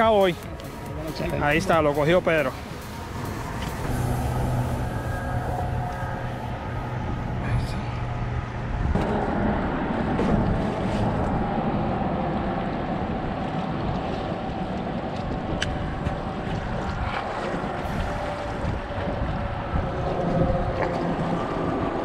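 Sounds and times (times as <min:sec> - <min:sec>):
engine drone: 0:00.0 - 0:22.0
wind on microphone: 0:00.0 - 0:22.0.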